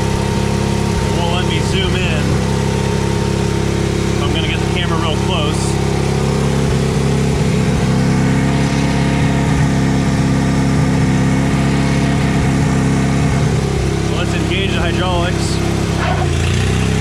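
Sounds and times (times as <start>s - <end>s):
skid steer engine running: 0.0s - 17.0s.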